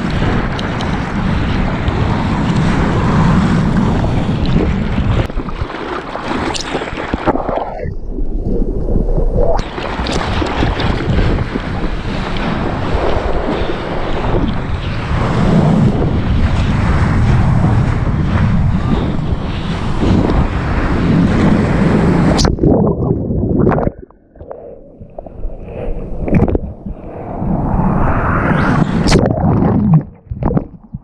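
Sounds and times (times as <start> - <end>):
wind rushing over microphone: 0.0 - 31.0
water splashing and sloshing: 3.8 - 27.2, 29.0 - 31.0.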